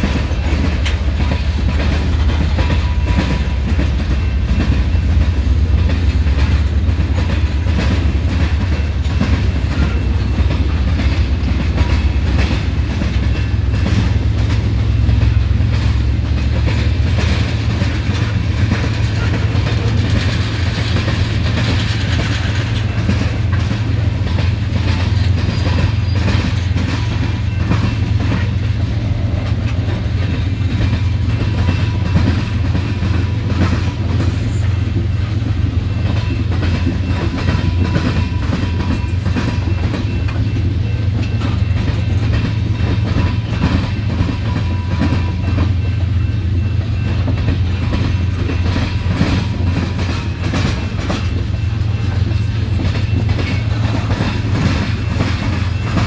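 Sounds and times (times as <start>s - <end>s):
freight train rumble: 0.0s - 56.0s
wheel on rail ringing: 0.0s - 56.0s
wheels clacking over crossing: 0.0s - 56.0s.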